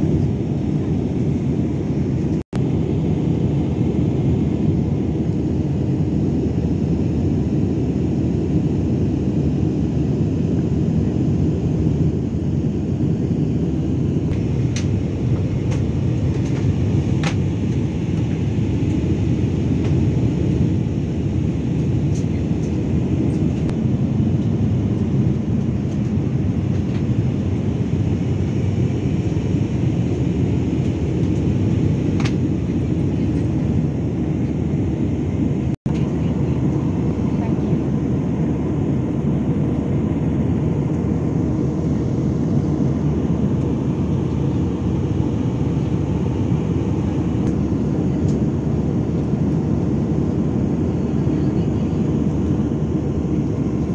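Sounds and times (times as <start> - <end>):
jet engine roar in cabin: 0.0 - 53.9.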